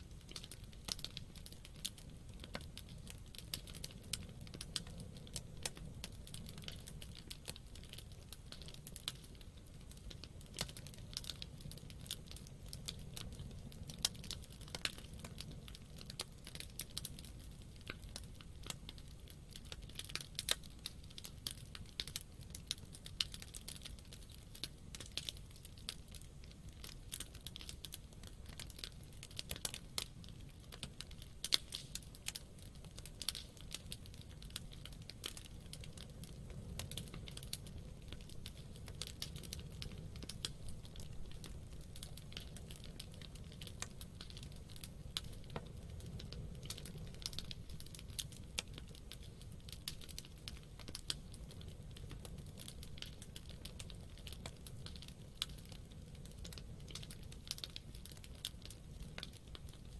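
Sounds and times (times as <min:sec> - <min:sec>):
campfire crackles and pops: 0:00.0 - 0:59.9
low rumble of flames: 0:00.0 - 0:59.9.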